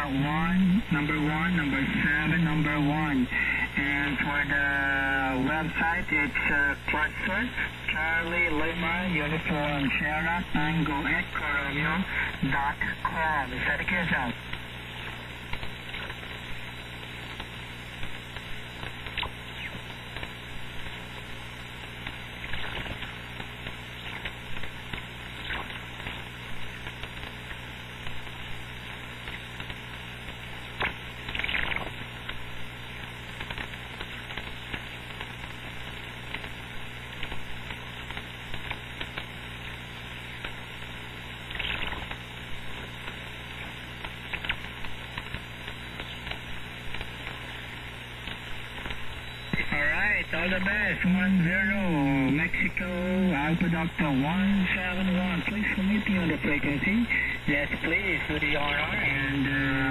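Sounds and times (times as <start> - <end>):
low hum: 0.0 - 59.9
radio crackles: 0.0 - 59.9
radio static hiss: 0.0 - 59.9.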